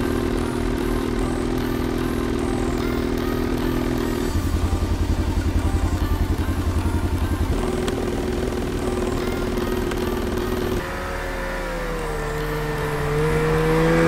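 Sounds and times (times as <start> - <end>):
snowmobile engine idling: 0.0 - 14.0.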